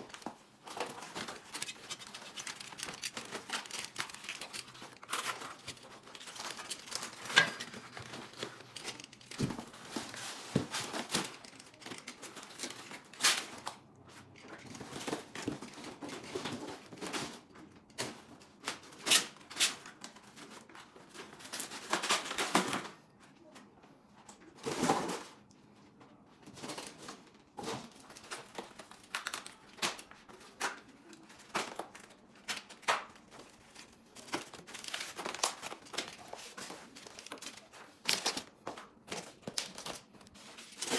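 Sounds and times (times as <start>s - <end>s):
packing material crinkling and tearing: 0.0s - 22.8s, 26.5s - 40.9s.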